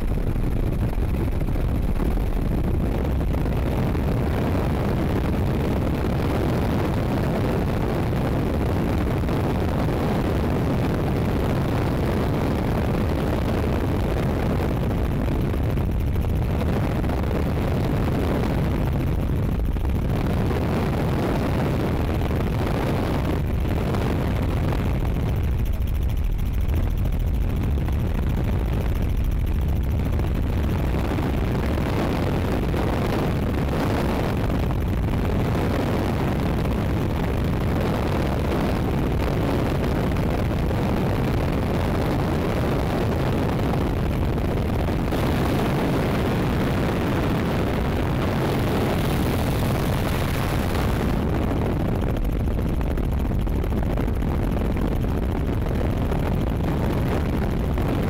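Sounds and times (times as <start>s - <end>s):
helicopter engine and rotor: 0.0s - 58.0s
wind on microphone: 0.0s - 58.0s.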